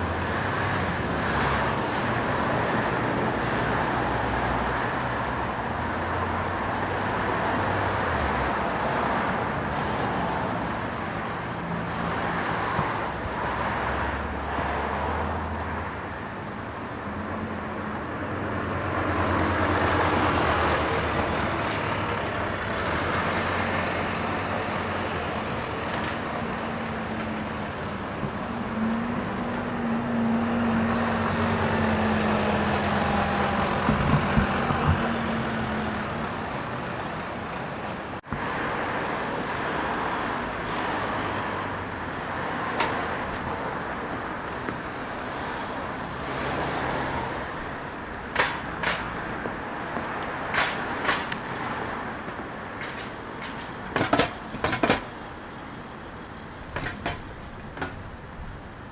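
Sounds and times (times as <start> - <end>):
heavy vehicle engine hum: 0.0 - 58.9
street traffic passing: 0.0 - 58.9.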